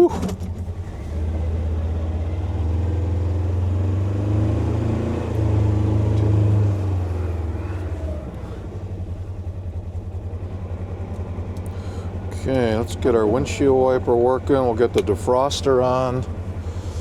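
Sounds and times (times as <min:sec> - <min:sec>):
engine revving and idling: 0:00.0 - 0:17.0.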